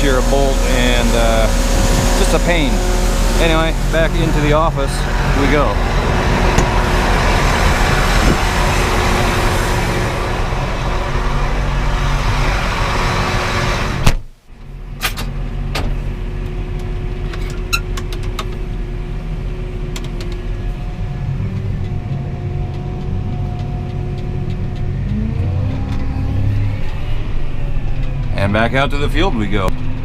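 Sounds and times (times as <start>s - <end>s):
farm vehicle engine running: 0.0s - 30.0s.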